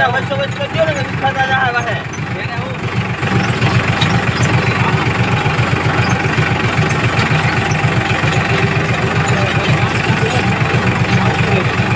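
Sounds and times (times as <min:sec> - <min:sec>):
tractor diesel engine chugging: 0:00.0 - 0:11.9.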